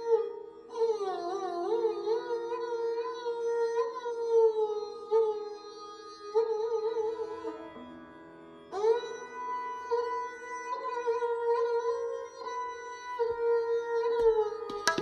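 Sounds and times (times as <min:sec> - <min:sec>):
bowed sarangi melody: 0:00.0 - 0:15.0.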